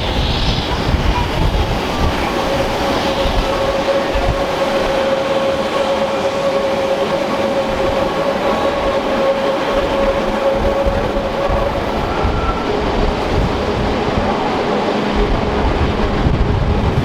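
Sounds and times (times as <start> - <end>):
electric train rumble: 0.0 - 17.0
steady whine: 0.0 - 17.0.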